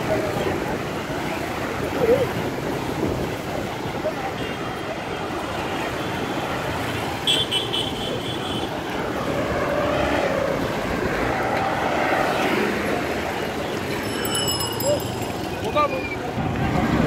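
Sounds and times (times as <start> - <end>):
motorcycles and minibus passing: 0.0 - 17.0.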